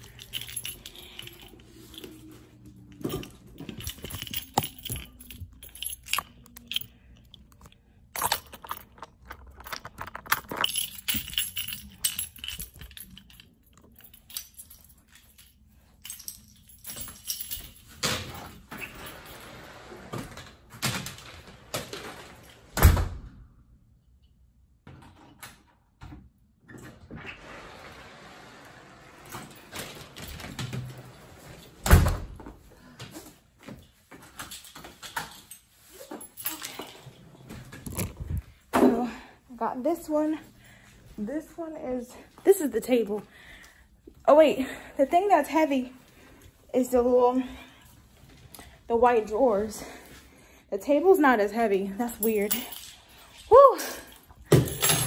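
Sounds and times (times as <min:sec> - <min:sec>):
person moving about a room: 0:00.0 - 0:23.3, 0:24.0 - 0:55.0.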